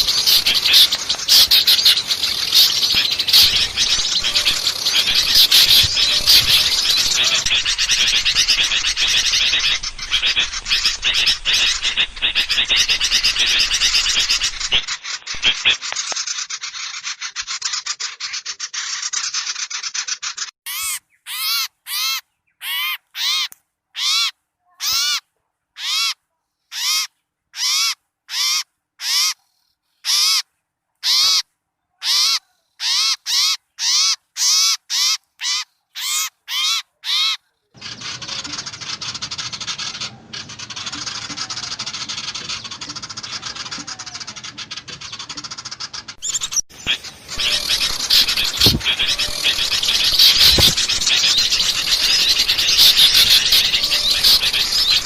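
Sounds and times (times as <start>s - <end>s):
small birds chattering: 0.0s - 25.2s, 32.0s - 55.0s
short harsh bird calls: 0.0s - 55.0s.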